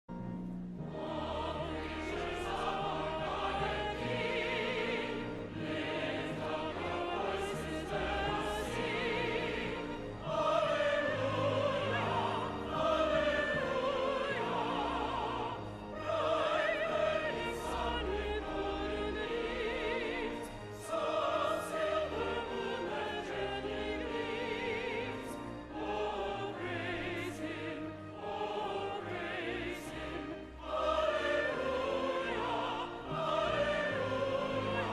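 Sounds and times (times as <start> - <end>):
orchestral accompaniment: 0.1 - 34.9
choir singing with vibrato: 0.8 - 34.9.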